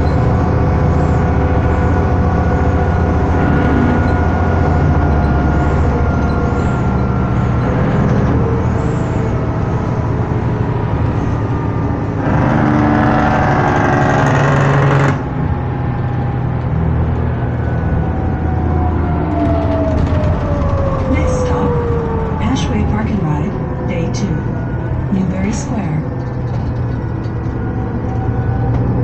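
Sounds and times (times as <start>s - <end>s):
bus diesel engine running: 0.0s - 29.0s
road noise: 0.0s - 29.0s
transmission whine: 0.0s - 29.0s.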